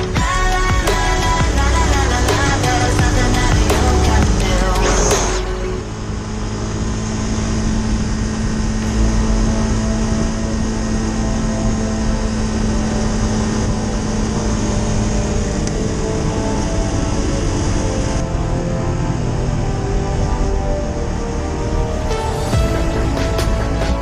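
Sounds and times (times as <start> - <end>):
background music: 0.0 - 24.0
motorcycle engine hum: 0.0 - 24.0
wind and road noise: 0.0 - 24.0.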